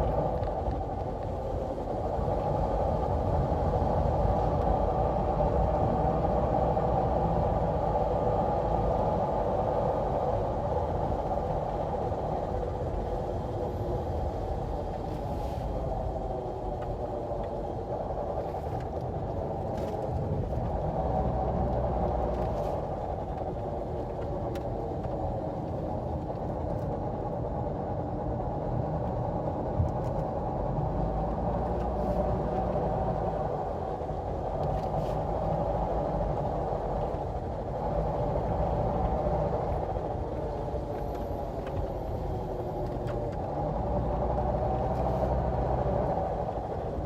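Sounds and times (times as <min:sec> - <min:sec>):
road rumble: 0:00.0 - 0:47.0
wheel bearing drone: 0:00.0 - 0:47.0.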